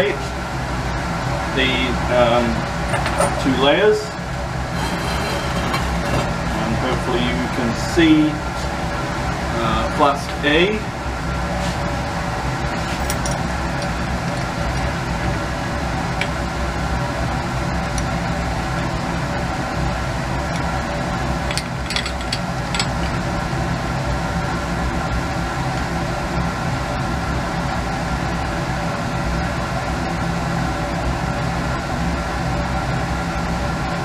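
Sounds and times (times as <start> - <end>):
mechanical hum: 0.0 - 34.0.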